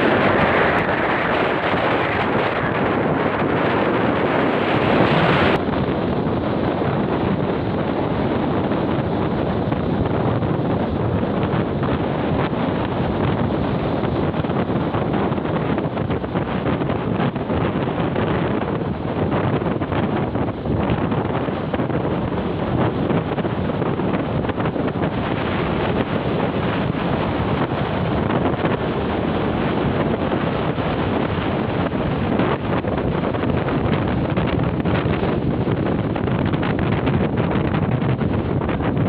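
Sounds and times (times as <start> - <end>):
wind on microphone: 0.0 - 39.0.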